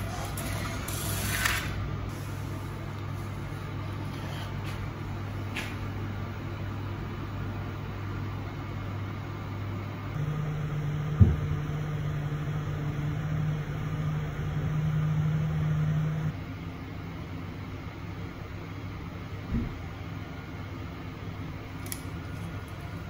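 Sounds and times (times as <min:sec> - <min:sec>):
vending machine electrical hum: 0:00.0 - 0:23.0.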